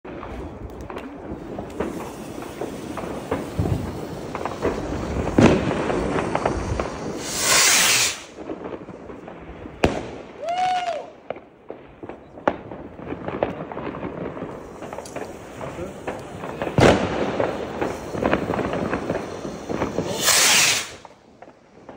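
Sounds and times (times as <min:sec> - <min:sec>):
fireworks popping and cracking: 0:00.0 - 0:21.9
firework bang: 0:00.1 - 0:21.9
firework rocket hissing whoosh: 0:01.0 - 0:11.0, 0:13.2 - 0:21.9.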